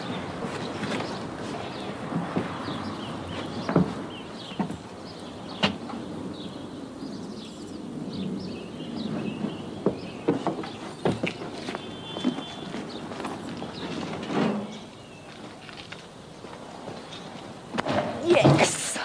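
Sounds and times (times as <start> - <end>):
birds chirping: 0.0 - 17.4
steady background hiss: 0.0 - 19.0.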